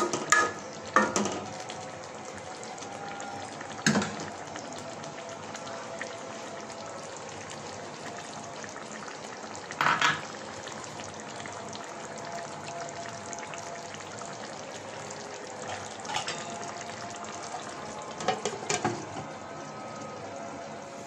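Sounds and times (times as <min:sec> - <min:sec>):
curry sizzling and bubbling: 0:00.0 - 0:21.0.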